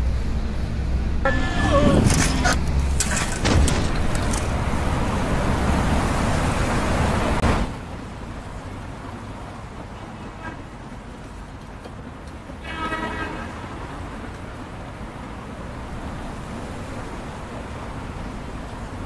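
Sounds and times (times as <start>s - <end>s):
quiet street ambience: 0.0s - 19.0s
road traffic rushing: 0.0s - 19.0s.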